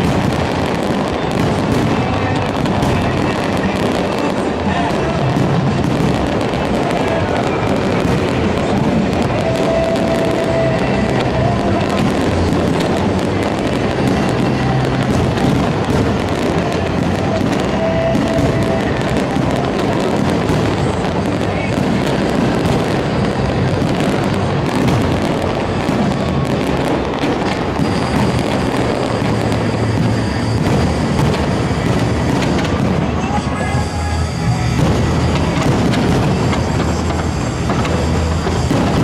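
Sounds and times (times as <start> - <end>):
fireworks bangs and crackles: 0.0 - 39.0.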